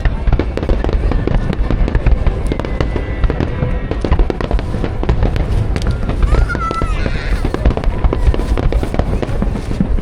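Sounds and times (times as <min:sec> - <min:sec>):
fireworks bangs and crackle: 0:00.0 - 0:10.0.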